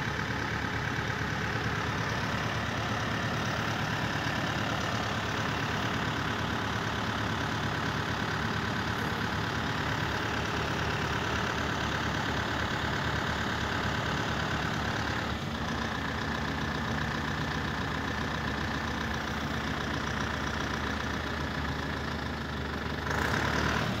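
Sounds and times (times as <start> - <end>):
engine running with low throb: 0.0 - 24.0.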